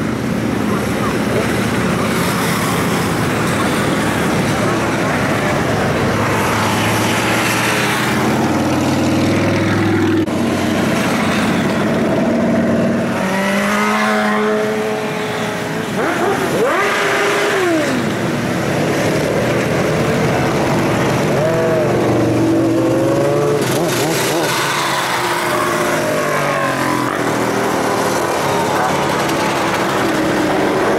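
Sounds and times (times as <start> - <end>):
motorcycles passing: 0.0 - 30.9
motorcycle engine revving: 0.3 - 30.9.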